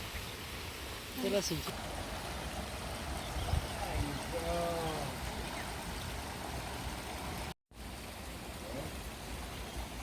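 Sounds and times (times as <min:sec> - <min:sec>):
flowing water rushing: 0:00.0 - 0:10.0.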